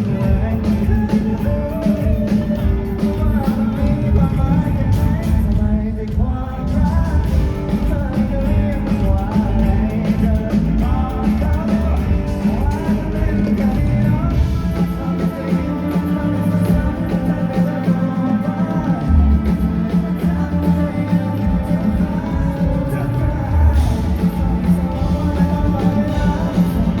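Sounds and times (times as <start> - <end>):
lead vocal singing: 0.0 - 27.0
live pop-rock band: 0.0 - 27.0.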